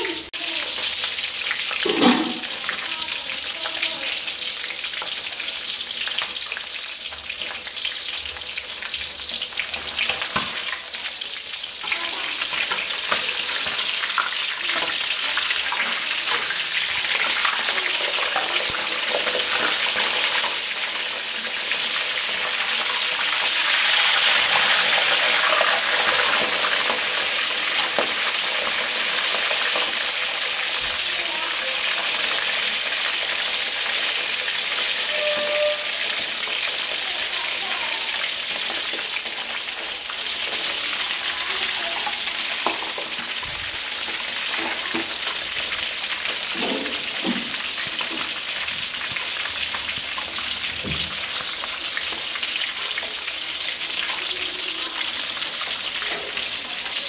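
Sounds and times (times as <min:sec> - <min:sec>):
fish sizzling in hot oil: 0:00.0 - 0:57.0.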